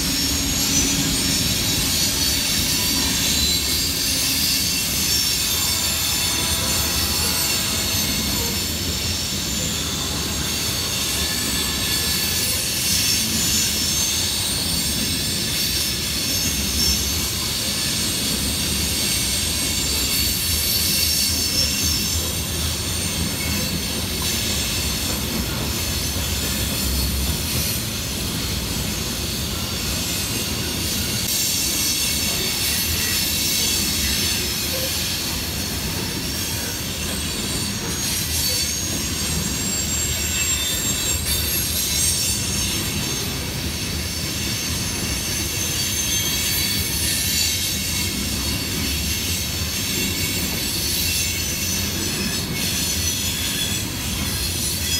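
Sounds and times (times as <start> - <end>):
freight train cars rolling: 0.0 - 54.9
high-pitched wheel squeal: 0.0 - 54.9.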